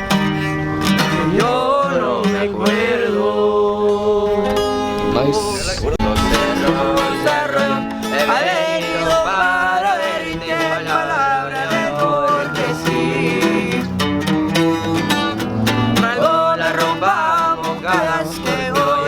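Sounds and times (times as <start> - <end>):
mexican-style song with guitars: 0.0 - 19.0.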